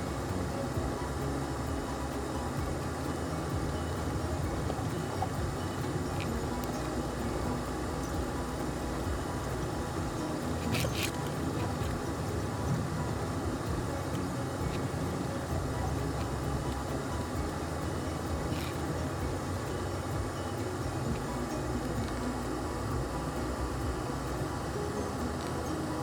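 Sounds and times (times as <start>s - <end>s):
vehicle engine and tyres rumble: 0.0s - 26.0s.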